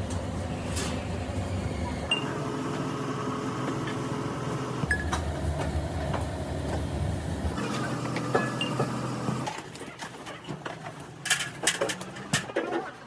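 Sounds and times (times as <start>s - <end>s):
workshop machinery humming: 1.8s - 12.4s.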